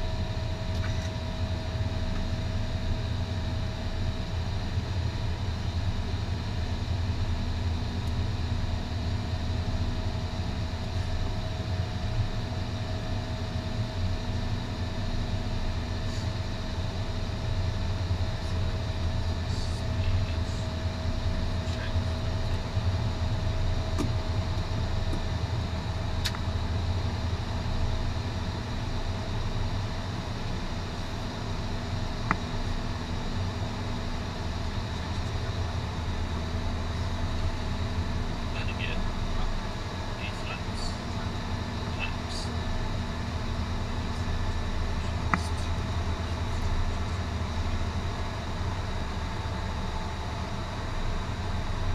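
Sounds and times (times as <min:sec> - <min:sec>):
aircraft engine and airflow rumble: 0:00.0 - 0:51.9
cockpit hums: 0:00.0 - 0:51.9.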